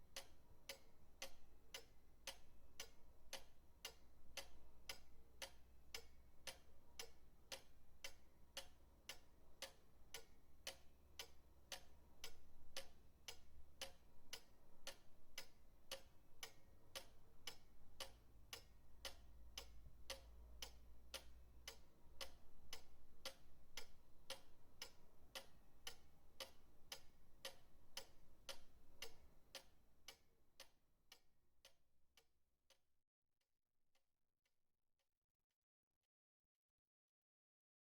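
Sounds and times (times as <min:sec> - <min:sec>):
pendulum clock ticking: 0:00.0 - 0:32.3.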